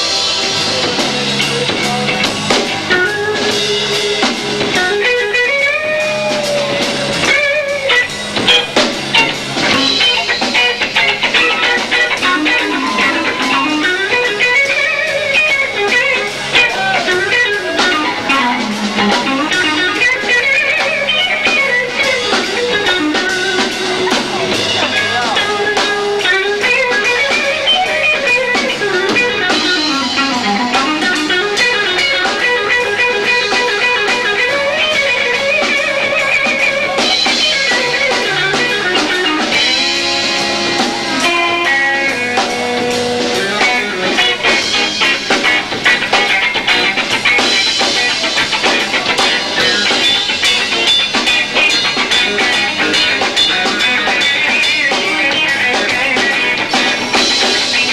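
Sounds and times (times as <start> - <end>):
live rock band: 0.0 - 57.9
sliding electric guitar: 0.0 - 57.9.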